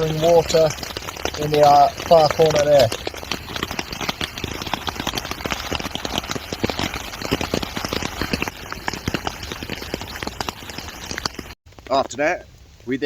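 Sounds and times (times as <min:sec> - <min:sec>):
heavy rain on fabric: 0:00.0 - 0:12.0.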